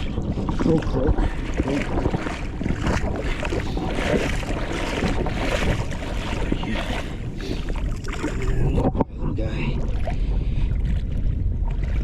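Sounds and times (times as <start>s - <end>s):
water sloshing and splashing: 0.0s - 9.1s, 9.7s - 12.0s
wind buffeting microphone: 0.0s - 12.0s.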